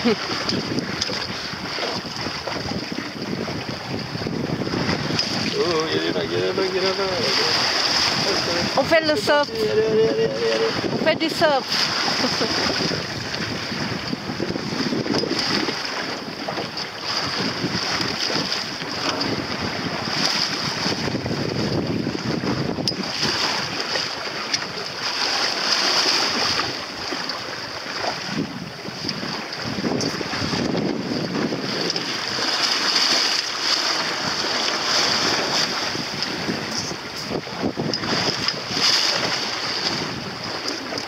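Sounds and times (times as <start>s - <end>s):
water rushing along hull: 0.0s - 41.0s
wind buffeting microphone: 0.0s - 41.0s.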